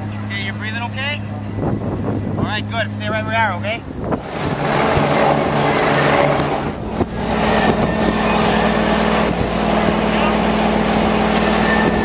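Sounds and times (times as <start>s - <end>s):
fire engine running: 0.0s - 12.0s.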